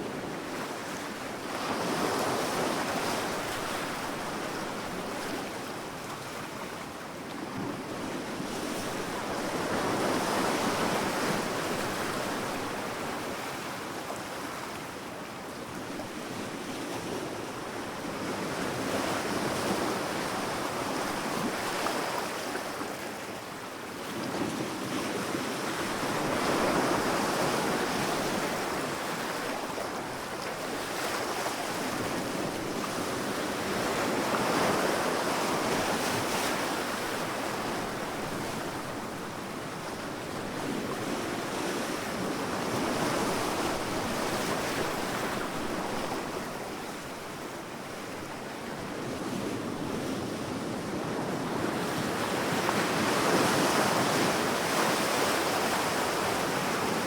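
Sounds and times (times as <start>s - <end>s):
sea waves breaking on a beach: 0.0s - 57.0s.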